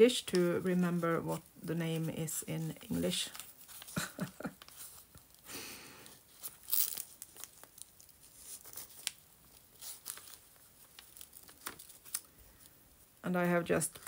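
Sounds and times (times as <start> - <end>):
paper pages rustling: 0.2 - 5.4, 6.1 - 12.8.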